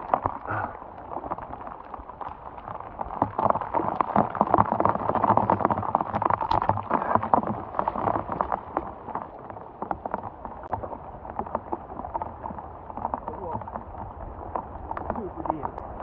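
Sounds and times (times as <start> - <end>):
raindrops hitting near microphone: 0.0 - 16.0.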